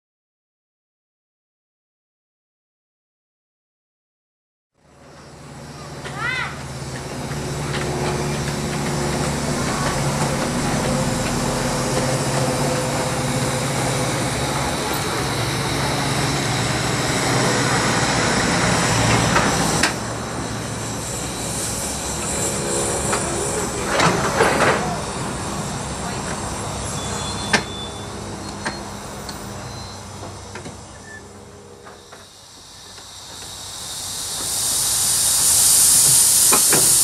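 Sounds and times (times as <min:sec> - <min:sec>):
miniature train mechanical hum: 0:04.8 - 0:37.0
small wheels rumbling on rails: 0:04.8 - 0:37.0
wheels clicking and squealing: 0:05.0 - 0:37.0.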